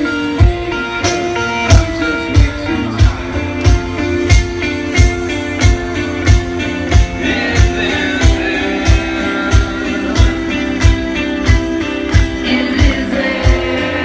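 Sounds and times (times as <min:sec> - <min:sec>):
rock band playing: 0:00.0 - 0:14.0
steady kick drum beat: 0:00.0 - 0:14.0.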